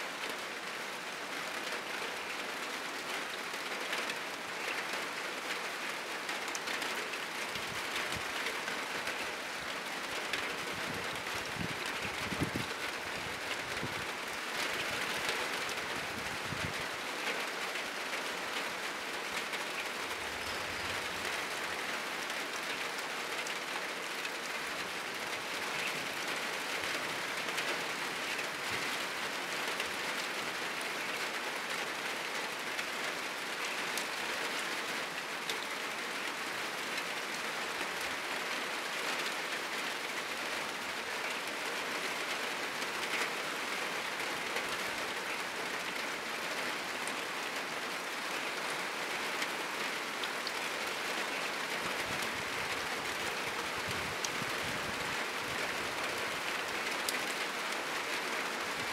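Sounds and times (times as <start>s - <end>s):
heavy rain on a roof: 0.0s - 58.9s.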